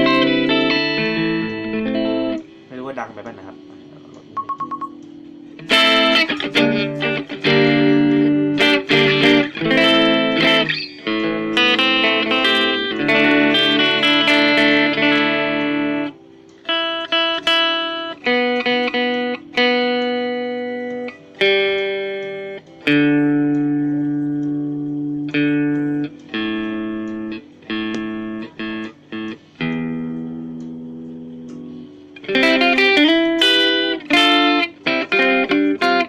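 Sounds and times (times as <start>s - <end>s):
clean electric guitar notes: 0.0s - 2.6s, 3.3s - 36.0s.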